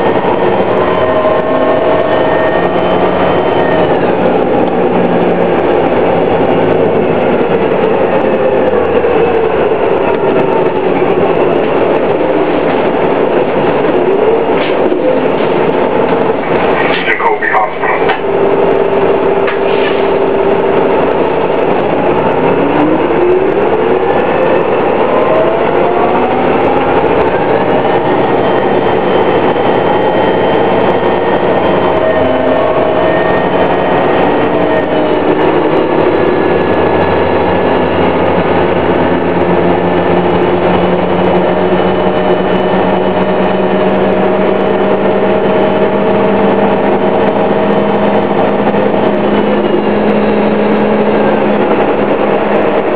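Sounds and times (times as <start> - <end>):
bus engine running: 0.0 - 52.9
bus transmission whine: 0.0 - 52.9.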